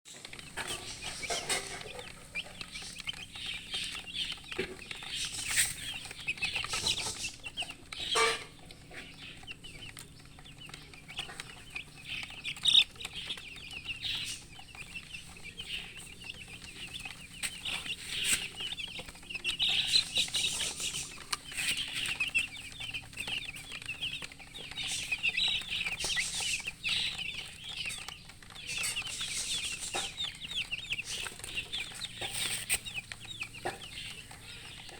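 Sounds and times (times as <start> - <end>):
chicks peeping: 0.1 - 34.9
hen clucking: 0.1 - 34.9.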